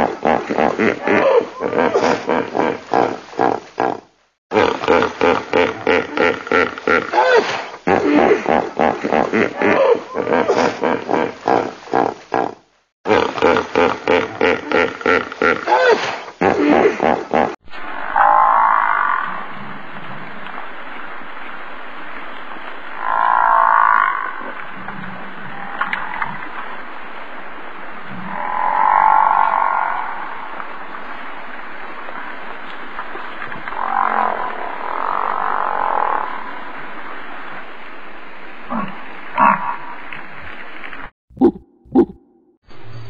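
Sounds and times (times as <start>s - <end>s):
steady outdoor hiss: 0.0s - 43.0s.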